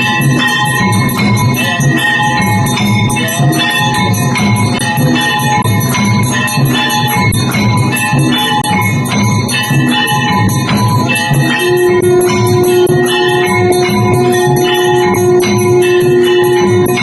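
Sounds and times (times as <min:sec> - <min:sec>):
bells ringing: 0:00.0 - 0:17.0.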